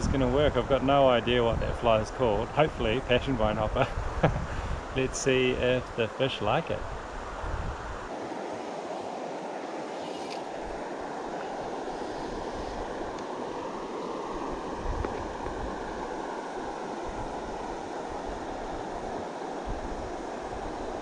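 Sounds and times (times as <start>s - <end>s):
wind buffeting microphone: 0.0s - 5.8s, 6.6s - 9.9s, 10.5s - 21.0s
river flowing: 4.0s - 21.0s.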